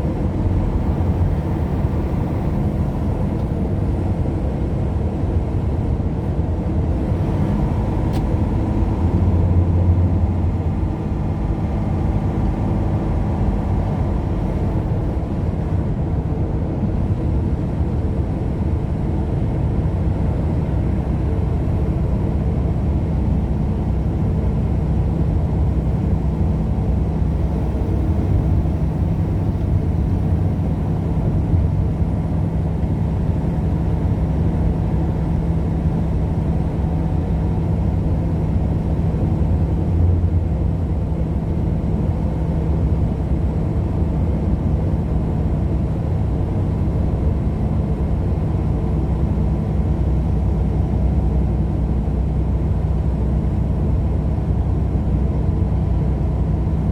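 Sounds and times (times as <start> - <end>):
car engine and tyre noise: 0.0 - 56.8.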